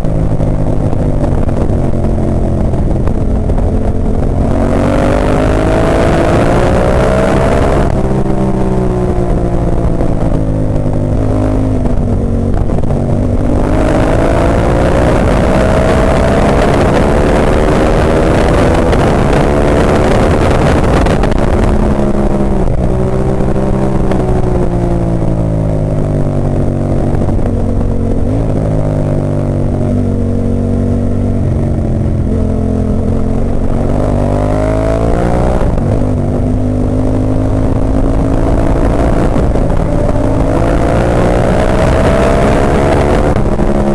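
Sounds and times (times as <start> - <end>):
motorcycle engine revving: 0.0 - 43.9
rushing wind noise: 0.0 - 43.9.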